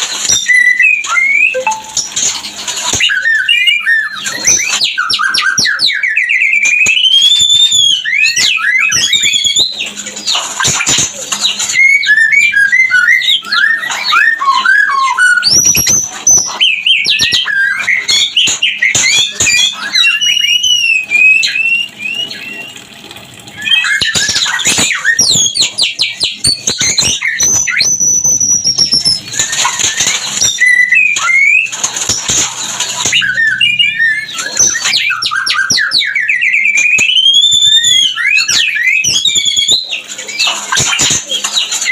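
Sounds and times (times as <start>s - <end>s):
bird song whistles and chatters: 0.2s - 22.8s, 23.5s - 41.9s.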